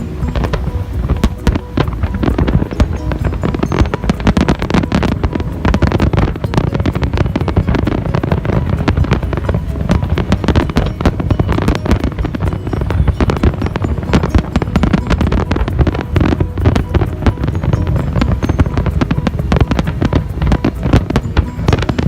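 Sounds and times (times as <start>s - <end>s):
fireworks bangs and crackles: 0.0s - 22.0s
low rumble: 0.0s - 22.0s.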